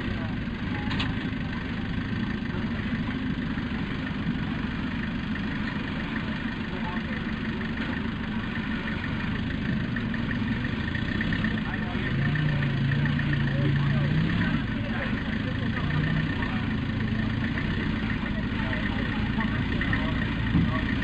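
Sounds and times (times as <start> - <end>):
forklift engine running at low revs: 0.0 - 21.0.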